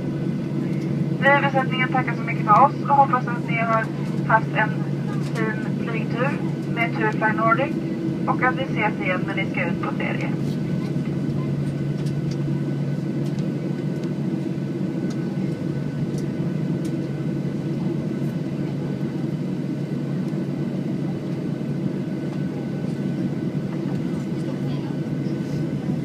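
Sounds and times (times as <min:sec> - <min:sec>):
airplane cabin low hum: 0:00.0 - 0:26.0.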